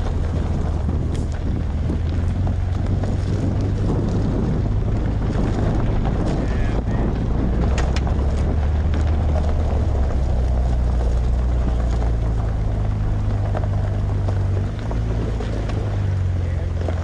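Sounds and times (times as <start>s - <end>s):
car engine hum: 0.0s - 17.0s
tyres crunching on gravel: 0.0s - 17.0s.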